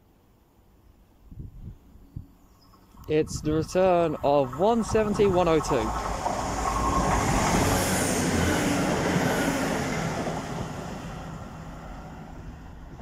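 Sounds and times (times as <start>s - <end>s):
diesel train passing: 1.8s - 13.0s.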